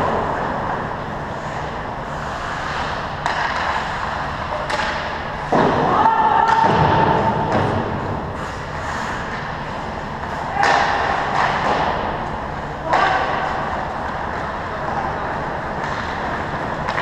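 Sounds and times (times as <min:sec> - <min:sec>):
hockey sticks and pucks knocking: 0:01.4 - 0:17.0.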